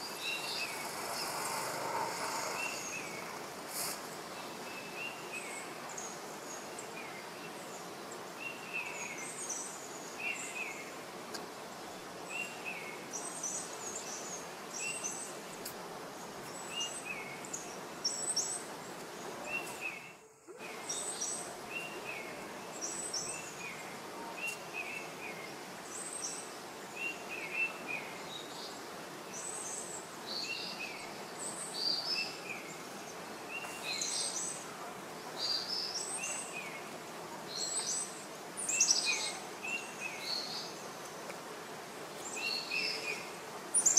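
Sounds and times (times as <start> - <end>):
forest background hiss: 0.0 - 43.9
small birds chirping: 0.0 - 43.9.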